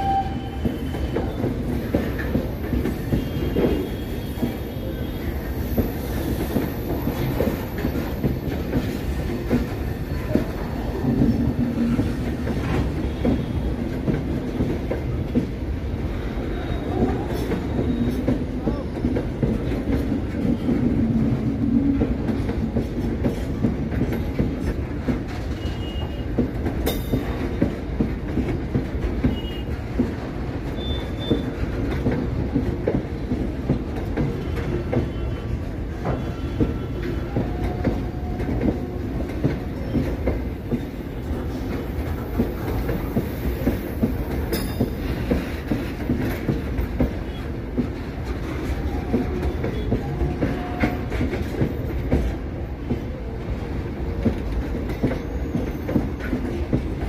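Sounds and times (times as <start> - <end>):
clickety-clack over rail joints: 0.0 - 57.0
freight train wheels rumbling: 0.0 - 57.0.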